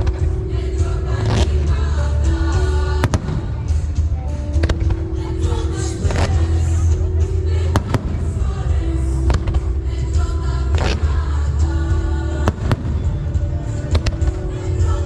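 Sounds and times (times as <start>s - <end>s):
music playing: 0.0s - 15.0s.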